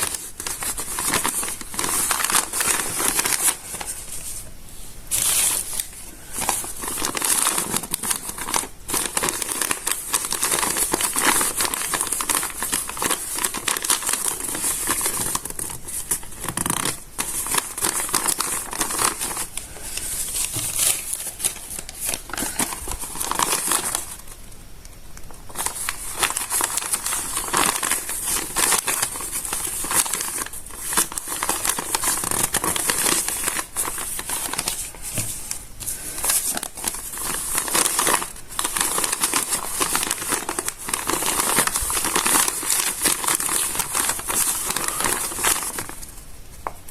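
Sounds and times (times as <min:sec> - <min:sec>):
stiff paper crinkling: 0:00.0 - 0:24.4, 0:25.2 - 0:46.9.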